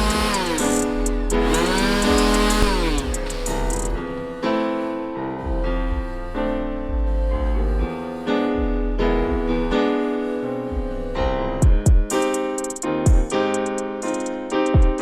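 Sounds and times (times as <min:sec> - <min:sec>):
piano chords over bass line: 0:00.0 - 0:15.0.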